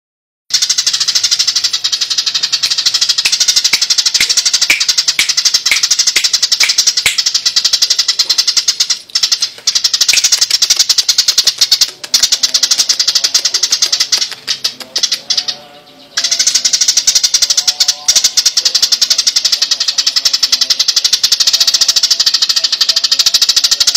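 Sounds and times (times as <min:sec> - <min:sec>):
sparrow rattling chatter: 0:00.5 - 0:23.9.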